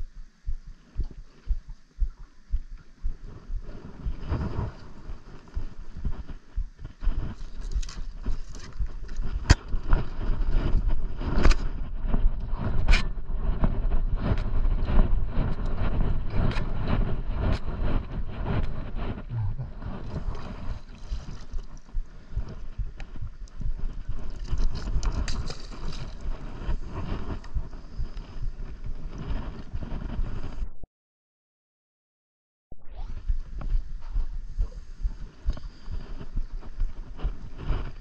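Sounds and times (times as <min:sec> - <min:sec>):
wind buffeting microphone: 0:00.0 - 0:30.7, 0:32.8 - 0:38.0.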